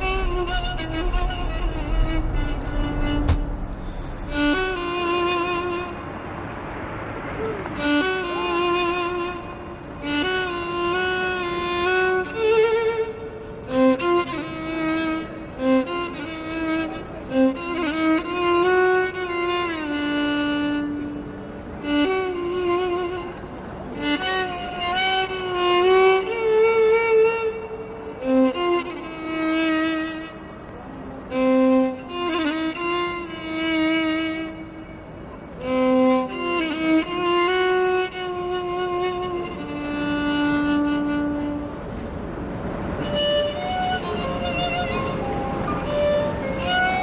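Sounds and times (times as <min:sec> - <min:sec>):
solo violin slow melody: 0:00.0 - 0:47.0.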